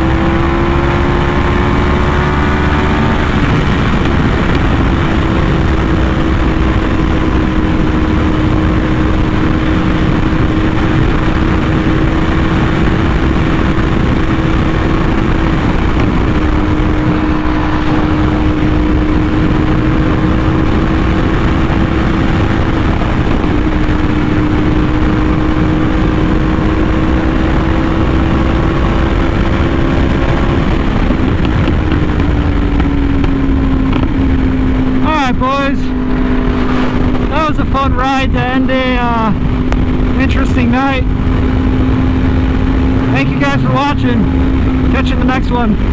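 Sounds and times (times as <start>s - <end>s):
motorcycle engine cruising: 0.0s - 45.9s
wind noise: 0.0s - 45.9s.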